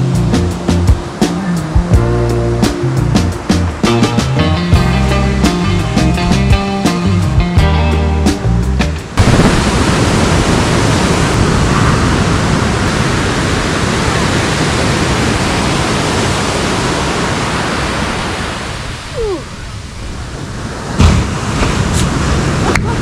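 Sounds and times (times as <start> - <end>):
ocean surf breaking on beach: 0.0 - 7.6, 9.0 - 23.0.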